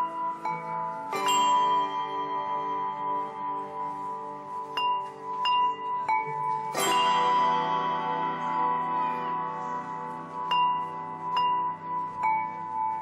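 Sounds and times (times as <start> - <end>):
handbells ringing: 0.0 - 13.0.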